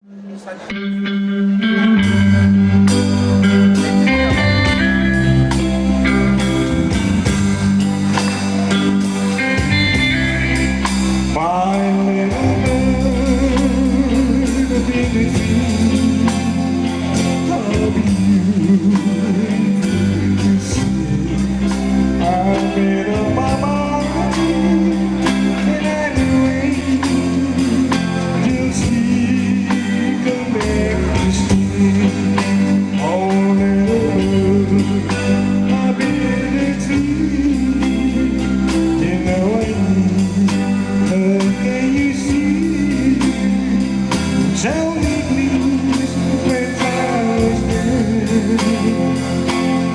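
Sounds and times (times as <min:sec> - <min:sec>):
guitar band playing live: 0:00.1 - 0:49.9.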